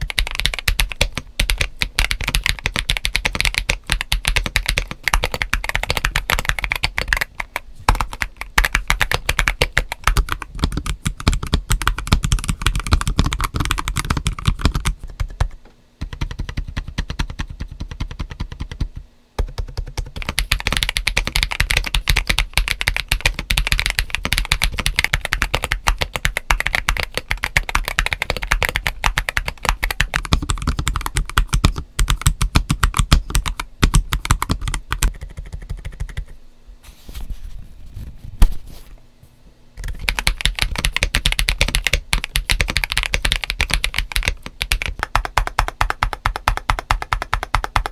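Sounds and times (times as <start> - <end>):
fast typing on mechanical keyboard: 0.0 - 36.4, 39.8 - 47.9.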